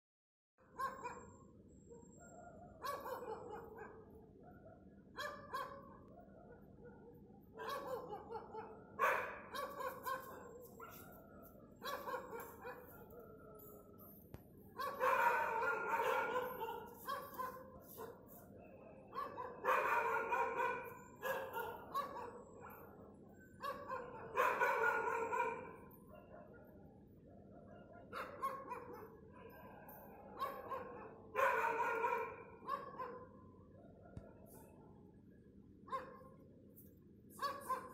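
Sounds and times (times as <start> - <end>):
dogs barking: 0.6 - 14.1, 14.7 - 35.1, 35.9 - 36.4, 37.3 - 37.9.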